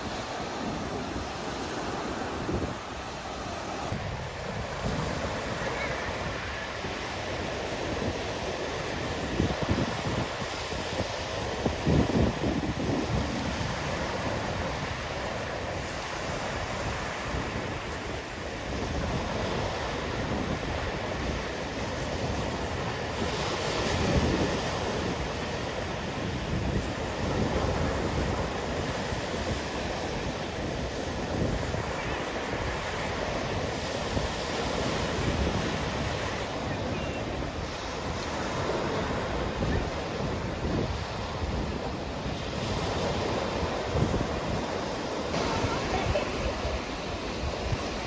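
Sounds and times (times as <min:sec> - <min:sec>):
sea waves breaking: 0:00.0 - 0:48.0
wind buffeting microphone: 0:00.0 - 0:48.0.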